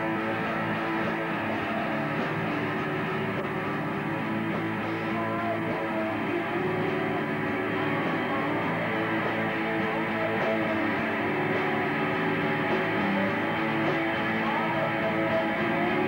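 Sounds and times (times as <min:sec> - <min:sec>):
person singing: 0:00.0 - 0:03.7, 0:04.9 - 0:16.0
electric guitar: 0:00.0 - 0:16.0
live rock band playing: 0:00.0 - 0:16.0.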